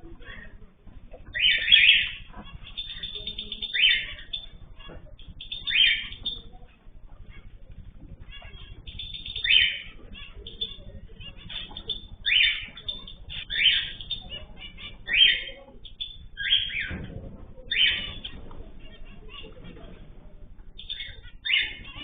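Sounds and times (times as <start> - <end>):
small bird chirps: 0.1 - 20.0, 20.6 - 22.0
loud harsh bird calls: 1.2 - 7.5, 8.2 - 19.9, 20.8 - 22.0.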